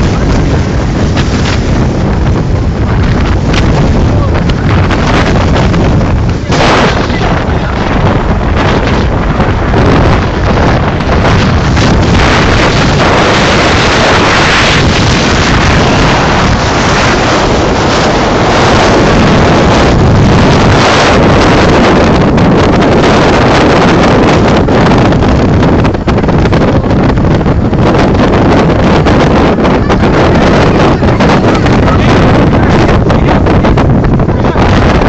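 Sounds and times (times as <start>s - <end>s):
strong wind on microphone: 0.0s - 35.0s.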